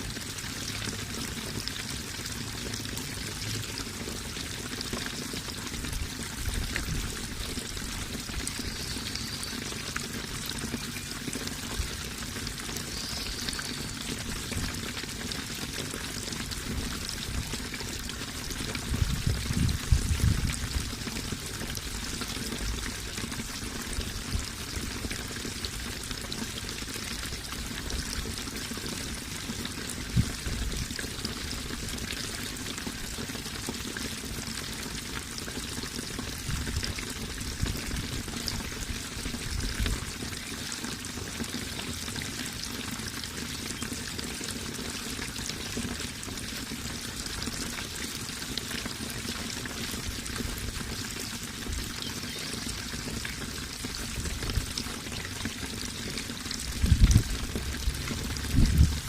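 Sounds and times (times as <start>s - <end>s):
running water splashing: 0.0s - 59.0s.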